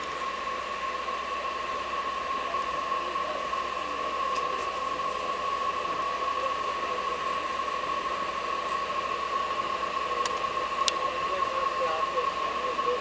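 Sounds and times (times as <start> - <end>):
high-pitched whine: 0.0 - 13.0
train coach hiss and hum: 0.0 - 13.0.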